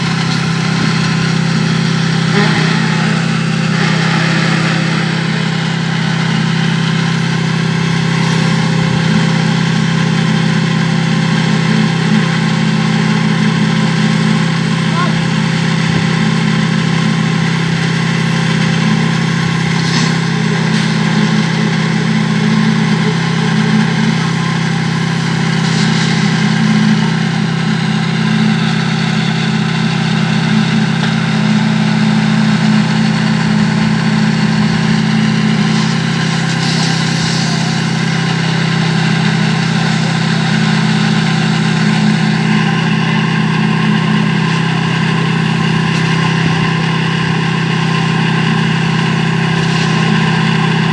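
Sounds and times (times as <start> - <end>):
concrete mixer engine running: 0.0 - 50.9.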